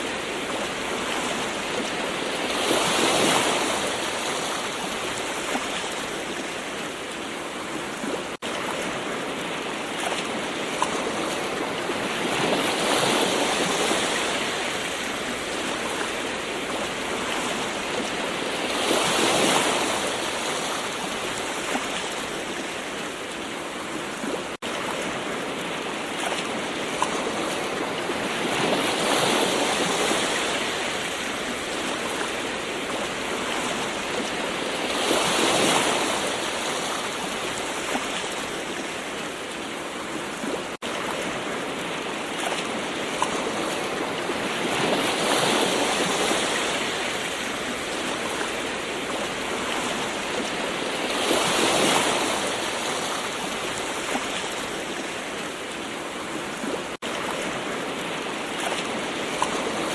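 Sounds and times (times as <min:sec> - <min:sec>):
ocean waves washing ashore: 0:00.0 - 0:59.9.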